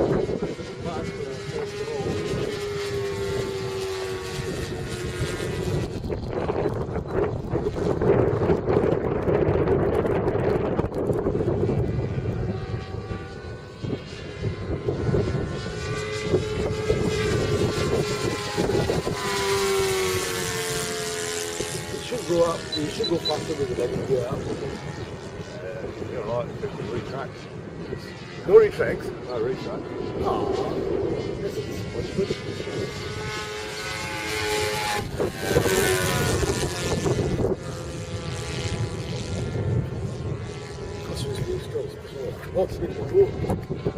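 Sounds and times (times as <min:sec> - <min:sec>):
model airplane propeller drone: 0:00.0 - 0:43.9.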